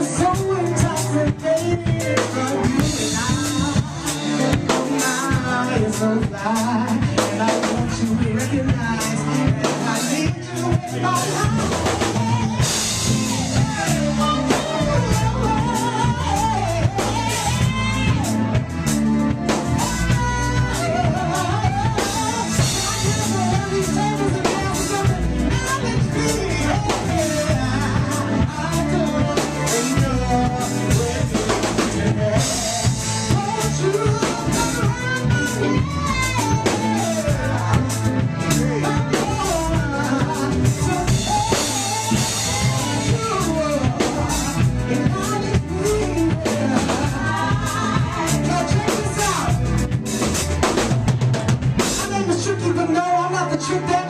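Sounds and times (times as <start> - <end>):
drum kit beat: 0.0 - 54.0
funk band playing: 0.0 - 54.0
person singing: 0.0 - 54.0.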